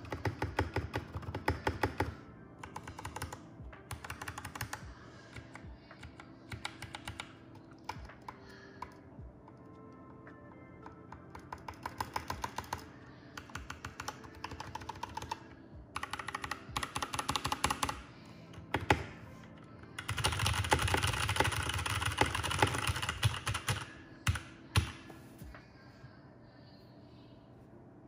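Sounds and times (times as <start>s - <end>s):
mechanical keyboard typing: 0.0s - 9.8s, 10.8s - 19.2s, 20.0s - 25.0s.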